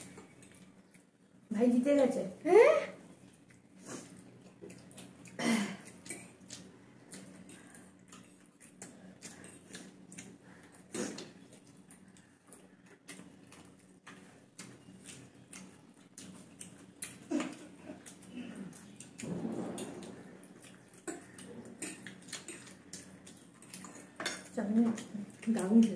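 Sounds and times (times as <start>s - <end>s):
chewing: 0.0s - 1.5s, 3.1s - 25.9s
low steady hum: 0.0s - 25.9s.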